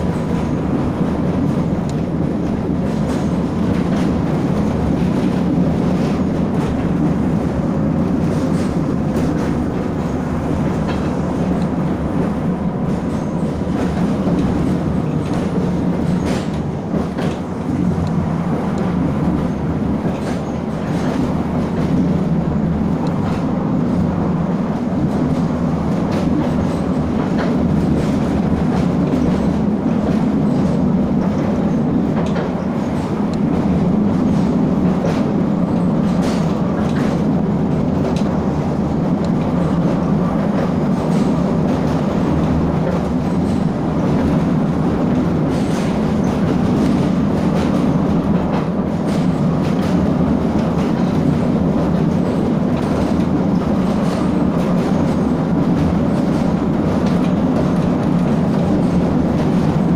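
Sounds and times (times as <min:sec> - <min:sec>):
train rumbling: 0:00.0 - 0:59.9
wheels clicking on track: 0:00.0 - 0:59.9.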